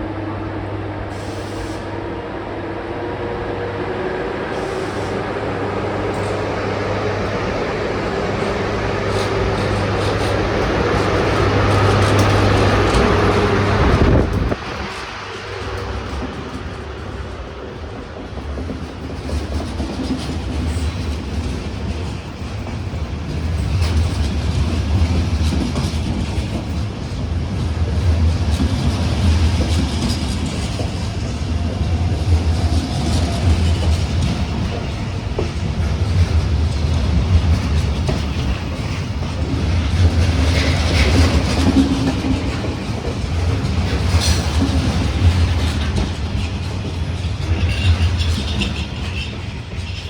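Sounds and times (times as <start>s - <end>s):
train rumbling: 0.0s - 50.0s
wheels clattering over rail joints: 7.2s - 50.0s.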